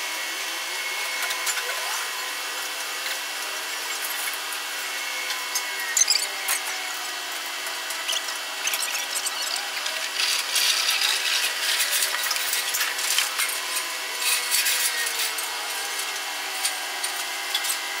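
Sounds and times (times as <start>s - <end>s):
construction machinery whining: 0.2s - 18.0s.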